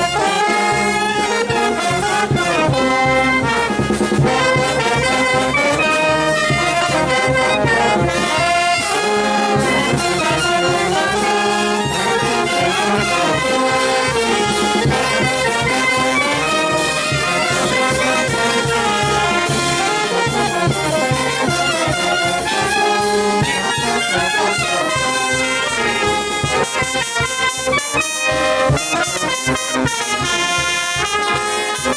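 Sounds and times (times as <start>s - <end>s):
brass band playing: 0.0s - 31.9s.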